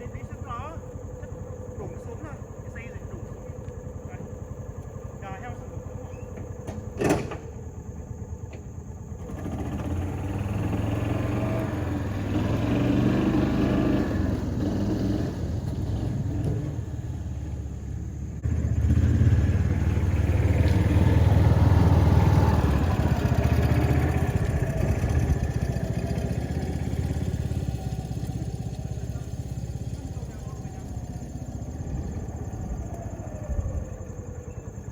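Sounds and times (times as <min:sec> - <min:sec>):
vehicle engine pulling: 0:00.0 - 0:34.9.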